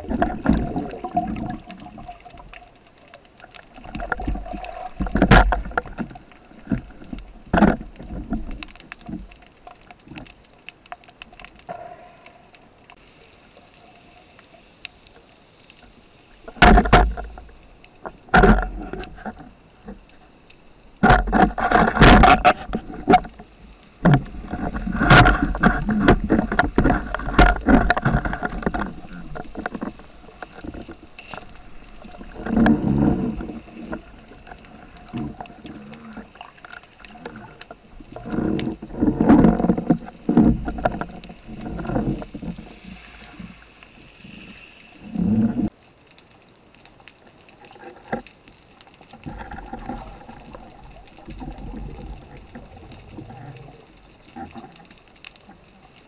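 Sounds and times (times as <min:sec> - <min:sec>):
water rushing against camera: 0:00.0 - 0:56.0.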